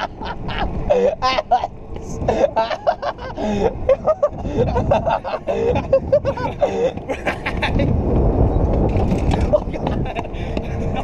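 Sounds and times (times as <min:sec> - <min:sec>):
people laughing and giggling: 0:00.0 - 0:07.9, 0:09.4 - 0:11.0
road noise: 0:00.0 - 0:11.0
utility vehicle engine running: 0:00.0 - 0:11.0.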